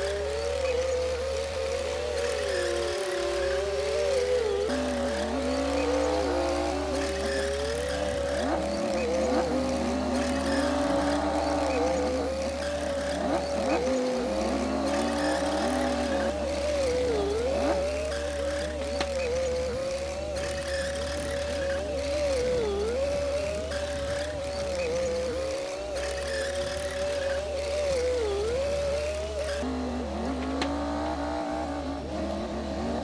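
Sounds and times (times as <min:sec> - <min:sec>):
bulldozer engine whining: 0:00.0 - 0:33.0.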